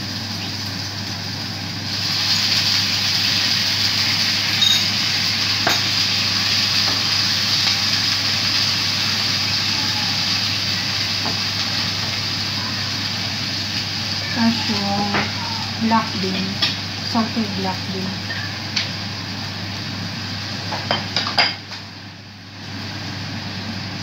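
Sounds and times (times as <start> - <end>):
vegetables sizzling in a wok: 0.0 - 24.0.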